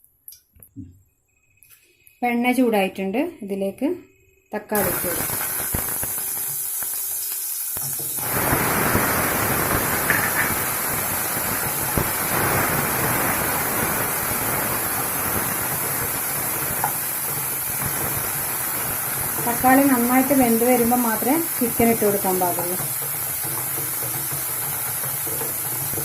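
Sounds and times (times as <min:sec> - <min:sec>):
tomatoes sizzling in hot oil: 0:04.7 - 0:26.0.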